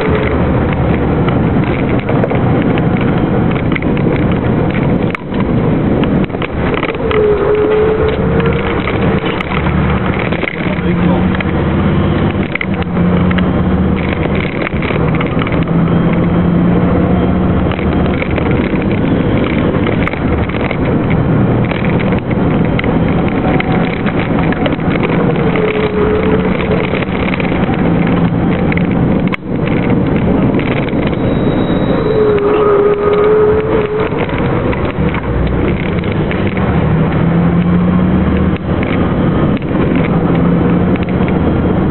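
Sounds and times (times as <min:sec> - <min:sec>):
truck engine under load: 0:00.0 - 0:41.9
wind and road noise: 0:00.0 - 0:41.9.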